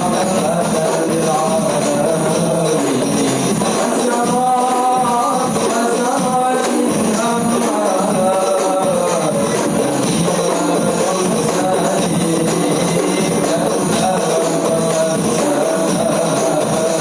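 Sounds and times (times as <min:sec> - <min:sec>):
frame drums playing rhythm: 0:00.0 - 0:17.0
voices singing a melody: 0:00.0 - 0:17.0.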